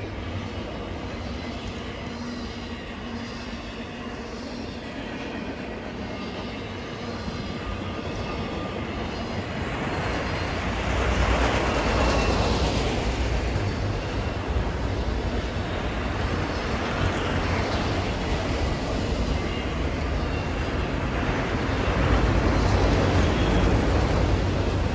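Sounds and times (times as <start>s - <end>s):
freight train rolling past: 0.0s - 24.9s.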